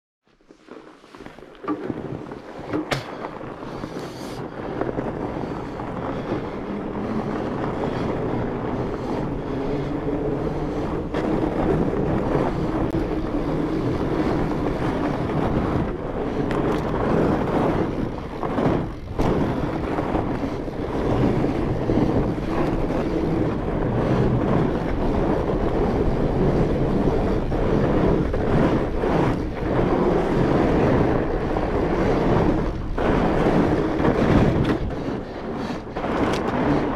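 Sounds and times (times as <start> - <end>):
bike tyres rolling over snow: 0.2 - 36.9
wind rushing over microphone: 1.2 - 36.9.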